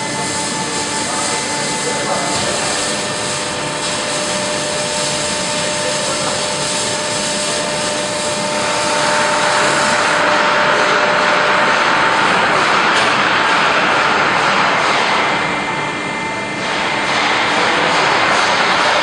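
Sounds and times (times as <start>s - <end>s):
machine noise with whine: 0.0s - 19.0s.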